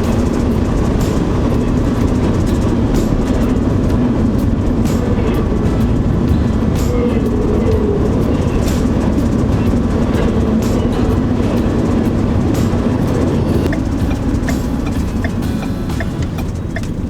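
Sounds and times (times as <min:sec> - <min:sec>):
train rail rumble: 0:00.0 - 0:17.0
van road noise: 0:00.0 - 0:17.0.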